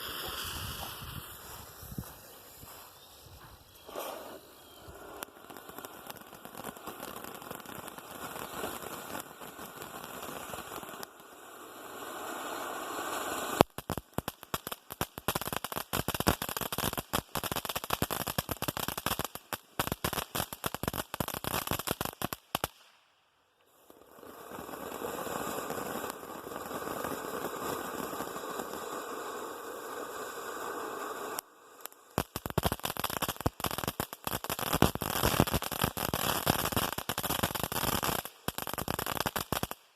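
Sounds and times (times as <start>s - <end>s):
hiss of spraying sparks: 0.0s - 22.8s, 23.7s - 39.9s
firework crackling: 0.0s - 39.9s.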